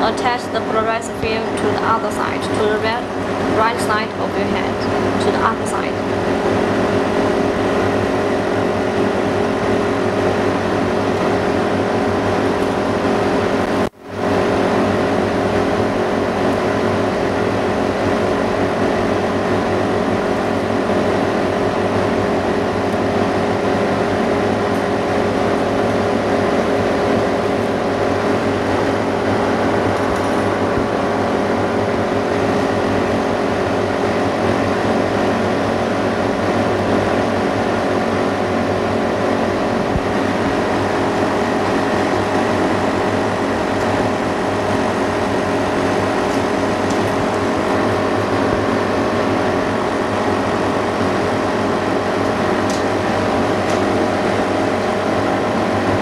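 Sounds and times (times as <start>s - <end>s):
vacuum pump humming: 0.0s - 56.0s.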